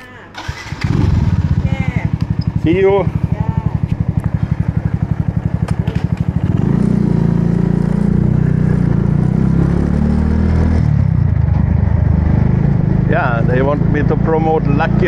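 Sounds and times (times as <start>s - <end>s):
motorbike engine idling and revving: 0.4s - 15.0s.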